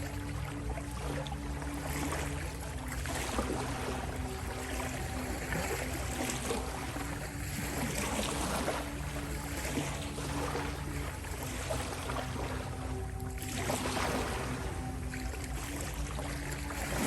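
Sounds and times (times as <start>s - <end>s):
low tonal drone: 0.0s - 17.0s
ocean waves washing: 0.0s - 17.0s.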